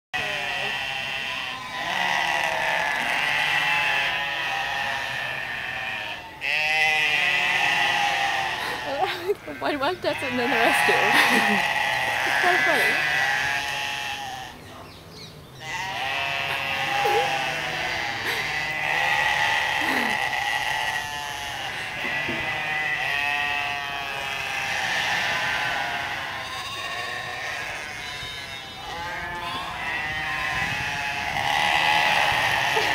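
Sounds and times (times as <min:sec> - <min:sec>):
goats bleating: 0:00.2 - 0:14.6, 0:15.6 - 0:32.9.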